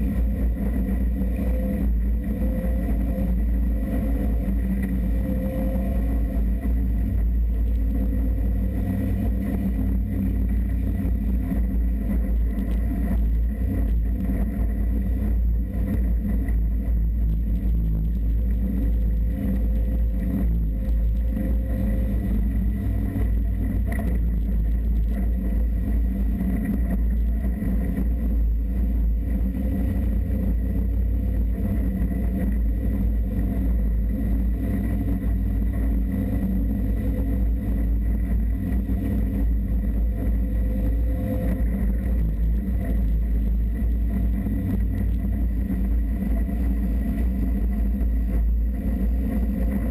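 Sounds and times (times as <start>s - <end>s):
off-road vehicle engine: 0.0s - 49.9s.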